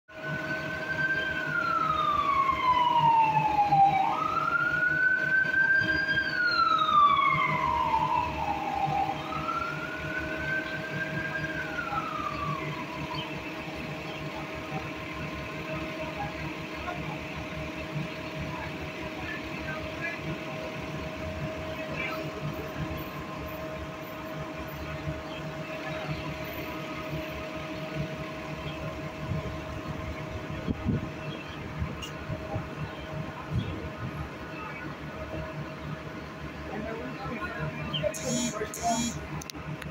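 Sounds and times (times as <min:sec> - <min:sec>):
siren wailing: 0:00.1 - 0:31.0, 0:37.8 - 0:39.2.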